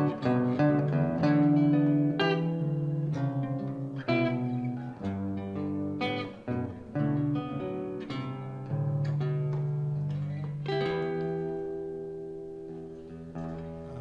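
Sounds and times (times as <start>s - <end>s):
acoustic bass guitar: 0.0s - 14.0s
acoustic guitar: 0.0s - 14.0s
electric guitar: 0.0s - 14.0s.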